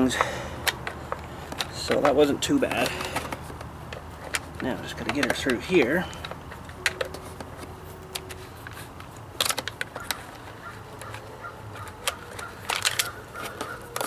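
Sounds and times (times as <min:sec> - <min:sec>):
plastic parts clicking and rattling: 0:00.0 - 0:14.0.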